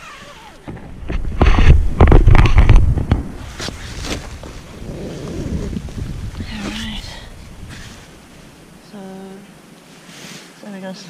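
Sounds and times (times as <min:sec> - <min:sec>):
tent fabric rustling: 0:00.0 - 0:01.8, 0:02.4 - 0:08.6, 0:09.8 - 0:10.6.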